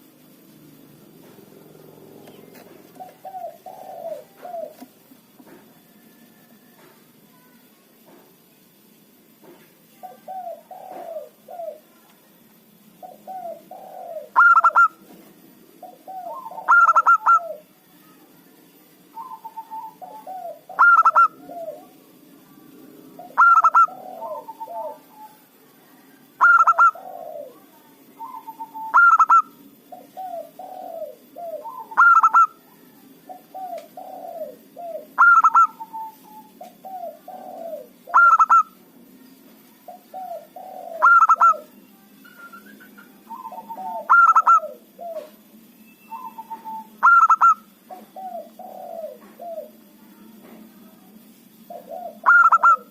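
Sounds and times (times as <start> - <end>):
dove cooing: 0.0 - 6.9, 10.0 - 11.9, 13.0 - 17.7, 19.1 - 25.6, 26.2 - 38.8, 39.9 - 45.5, 46.1 - 49.8, 51.6 - 52.9.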